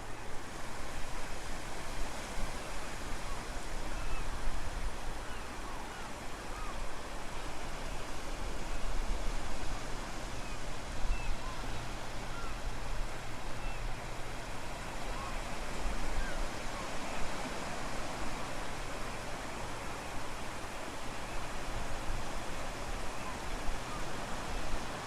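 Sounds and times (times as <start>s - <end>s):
ocean surf: 0.0s - 25.0s.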